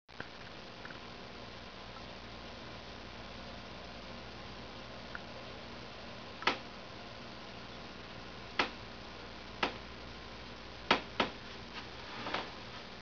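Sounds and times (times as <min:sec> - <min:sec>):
faint steady hiss: 0:00.1 - 0:13.0.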